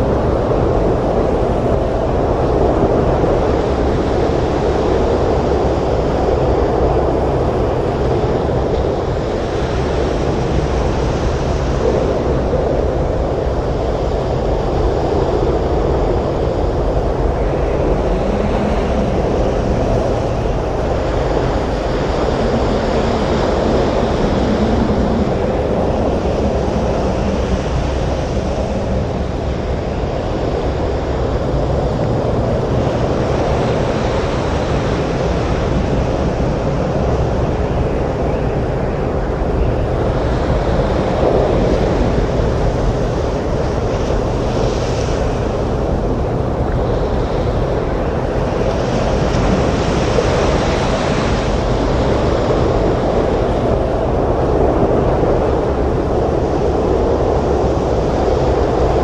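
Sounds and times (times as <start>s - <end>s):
storm wind: 0.0s - 59.0s.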